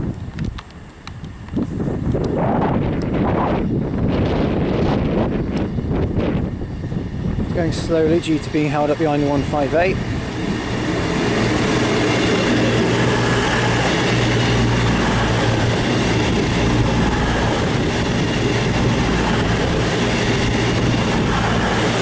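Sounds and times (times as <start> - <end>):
train rumble: 0.0 - 22.0
train diesel engines droning: 2.9 - 22.0.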